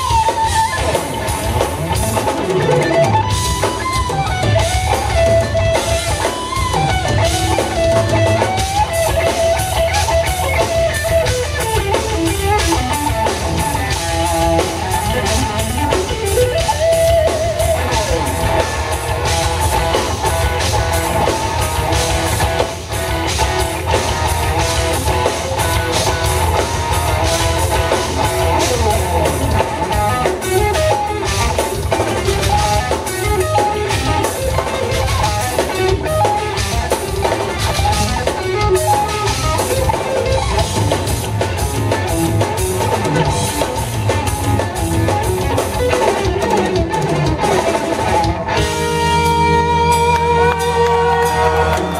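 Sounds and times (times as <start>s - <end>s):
bass guitar: 0.0s - 51.9s
drum kit: 0.0s - 51.9s
electric guitar lead: 0.0s - 51.9s.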